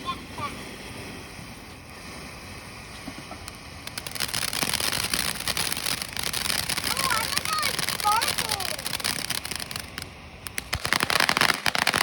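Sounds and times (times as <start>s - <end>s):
firework crackling hiss: 0.1s - 12.0s.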